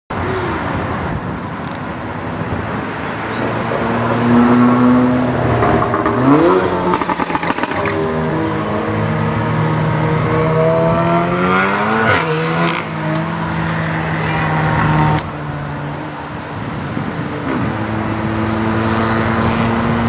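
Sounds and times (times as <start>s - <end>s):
car engine revving: 2.7s - 20.0s.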